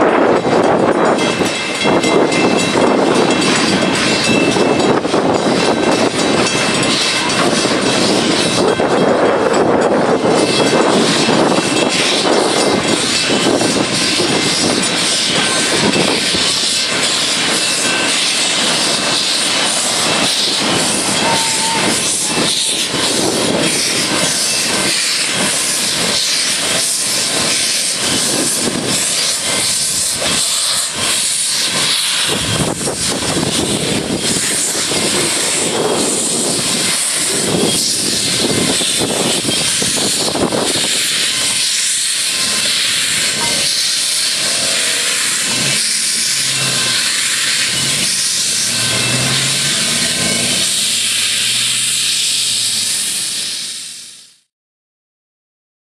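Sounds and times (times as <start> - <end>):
steam locomotive passing: 0.0 - 54.5
loud hiss of steam: 0.2 - 54.5.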